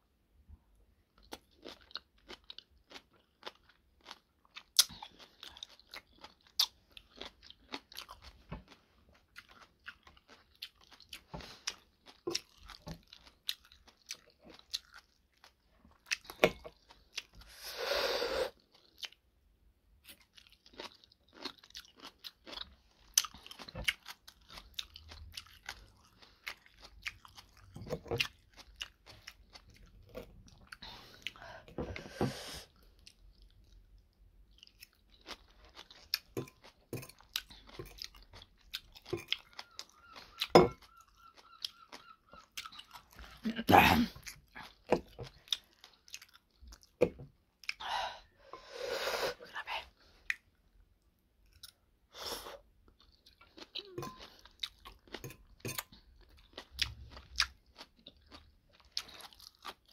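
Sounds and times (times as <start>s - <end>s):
chewing and crunching: 1.0s - 17.6s, 18.5s - 19.3s, 20.0s - 31.8s, 32.7s - 47.8s, 50.1s - 52.0s, 52.6s - 59.9s.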